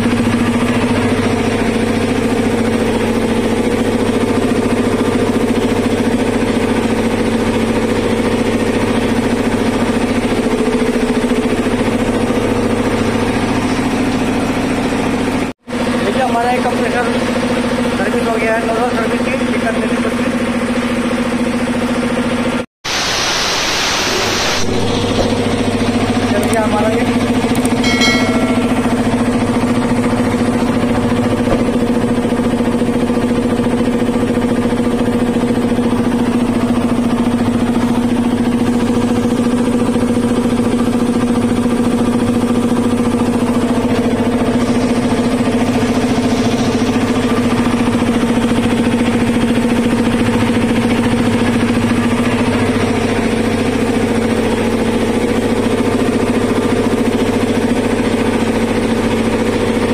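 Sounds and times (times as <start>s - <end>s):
air compressor running: 0.0s - 59.9s.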